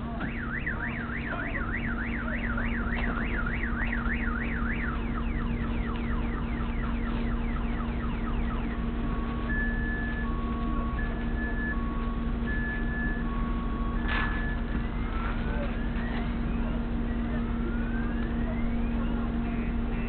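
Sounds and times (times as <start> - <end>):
car alarm: 0.0 - 20.0
steady low hum: 0.0 - 20.0.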